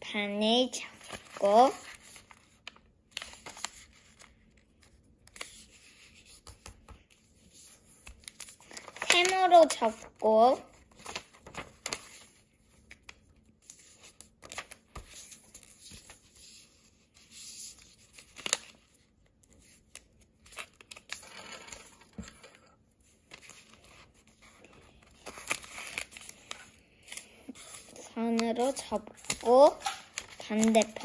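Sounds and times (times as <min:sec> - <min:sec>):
paper rustling and crinkling: 0:00.9 - 0:31.0.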